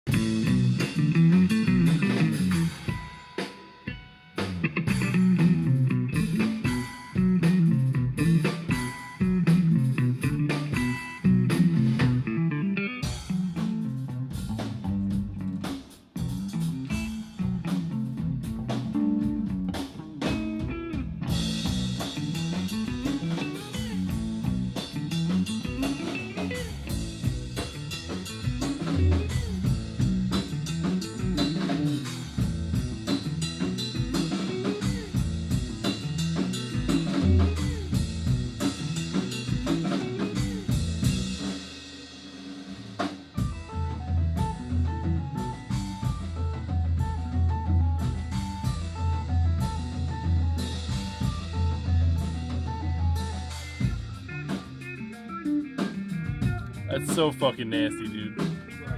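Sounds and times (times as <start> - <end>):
rock band playing live: 0.0 - 58.9
drum rimshots and cymbals: 0.1 - 12.4, 13.0 - 47.3, 48.0 - 58.9.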